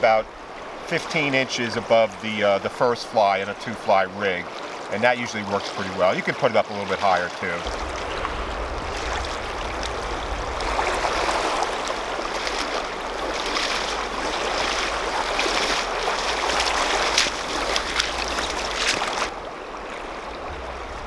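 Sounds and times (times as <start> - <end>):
river water rushing over rocks: 0.0 - 21.0
splashing wading footsteps: 0.0 - 21.0.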